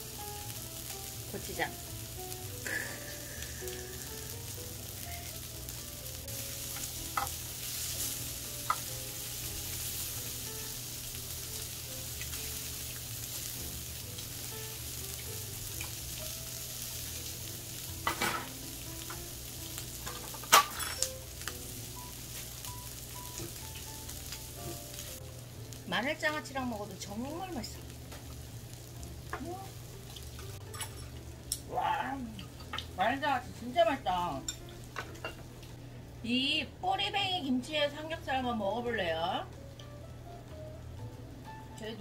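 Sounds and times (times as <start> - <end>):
meat sizzling on a grill pan: 0.0 - 35.6.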